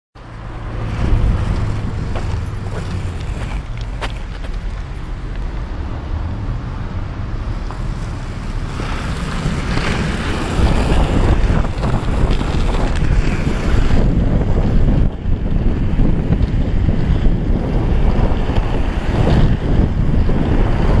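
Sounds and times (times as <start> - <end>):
wind and skateboard wheels rushing: 0.2 - 21.0.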